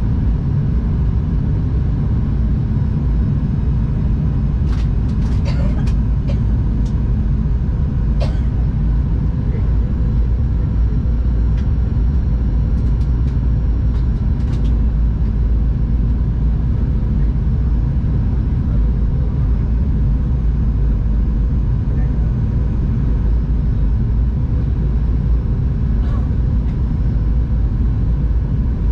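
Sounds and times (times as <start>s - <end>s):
airliner cabin rumble: 0.0s - 28.9s
faint steady hum: 0.0s - 28.9s.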